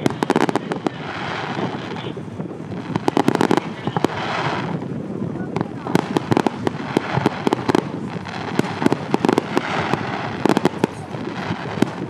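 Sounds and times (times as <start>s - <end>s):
continuous rumbling wash: 0.0s - 12.0s
fireworks bangs and crackles: 0.0s - 12.0s.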